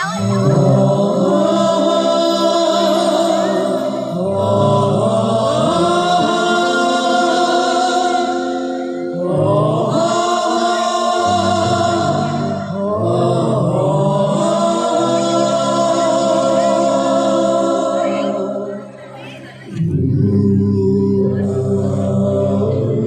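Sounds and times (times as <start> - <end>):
voices singing together: 0.0 - 23.0.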